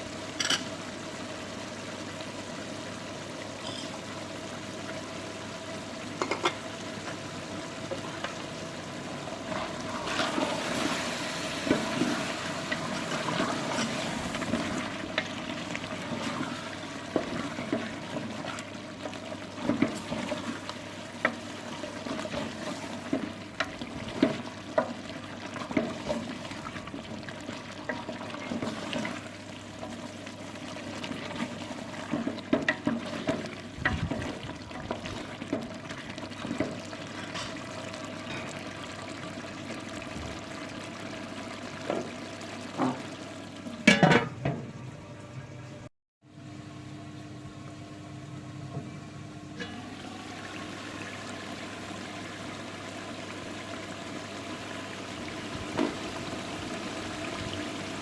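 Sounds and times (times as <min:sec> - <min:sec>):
liquid sloshing and bubbling in pot: 0:03.4 - 0:45.0, 0:48.6 - 0:58.0.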